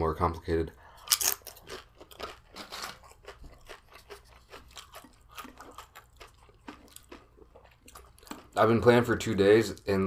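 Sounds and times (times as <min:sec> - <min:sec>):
chewing crunchy chips: 0:00.9 - 0:09.0.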